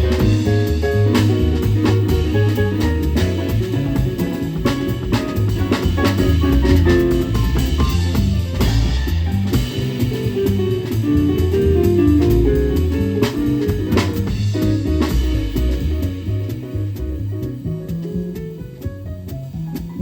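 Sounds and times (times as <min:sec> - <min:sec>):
drum kit with cymbals: 0:00.0 - 0:20.0
jazz quartet playing live: 0:00.0 - 0:20.0
moving bass line: 0:00.0 - 0:20.0.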